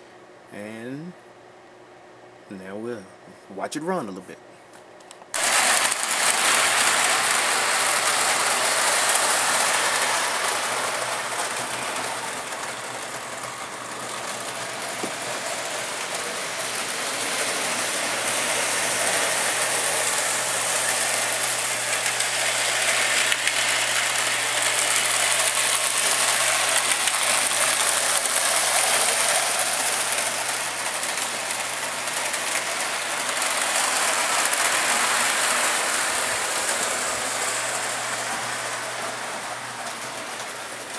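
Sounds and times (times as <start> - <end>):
toy train motor running: 5.4 - 40.9.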